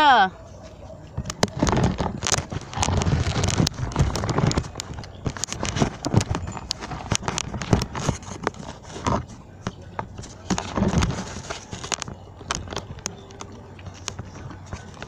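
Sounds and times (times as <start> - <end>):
puppies suckling: 0.3 - 15.0
camera handling rustling: 1.2 - 15.0.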